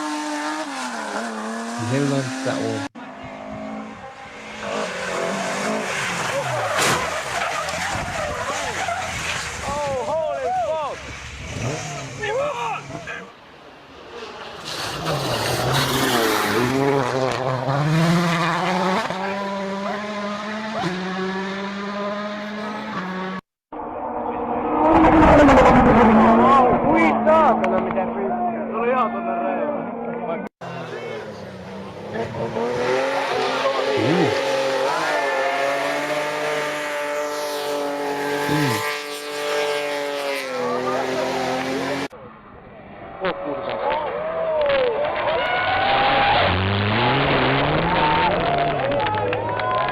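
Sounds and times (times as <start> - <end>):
rally car engine at high revs: 0.0 - 10.0, 11.1 - 13.2, 14.2 - 42.2, 42.9 - 49.9.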